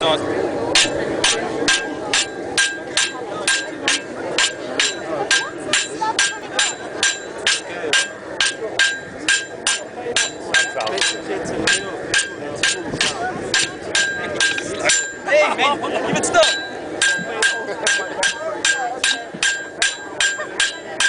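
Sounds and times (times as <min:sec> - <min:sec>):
hammer striking anvil: 0:00.7 - 0:15.3, 0:16.4 - 0:21.0.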